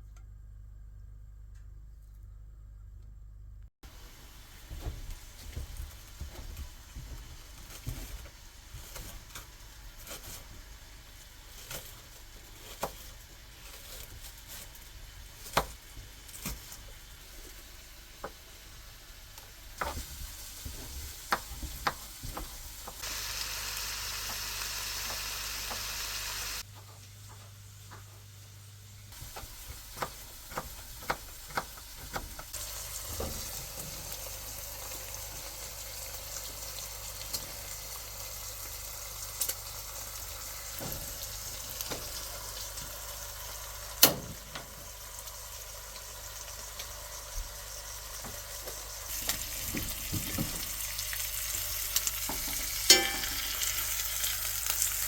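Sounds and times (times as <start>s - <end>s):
food sizzling in a frying pan: 3.9s - 55.0s.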